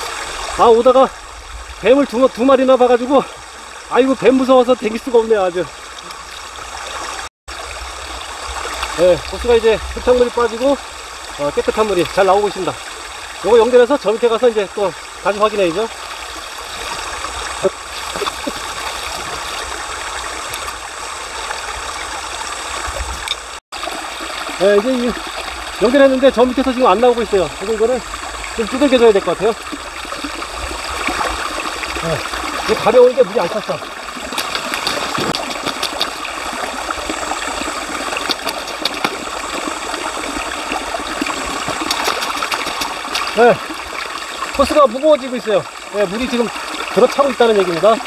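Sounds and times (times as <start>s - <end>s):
running water rushing: 0.0s - 48.0s
stream flowing over rocks: 0.0s - 48.0s.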